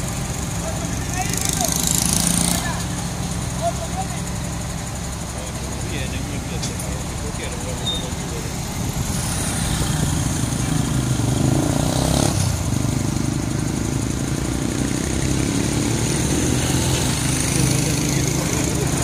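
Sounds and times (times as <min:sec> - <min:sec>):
heavy diesel truck engines running: 0:00.0 - 0:19.0
motorcycle passing: 0:00.0 - 0:19.0.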